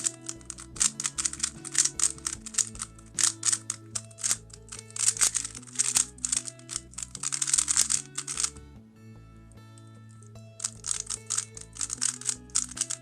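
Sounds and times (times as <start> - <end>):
puzzle cube clicking: 0.0 - 8.6, 10.6 - 13.0
background music: 0.0 - 13.0.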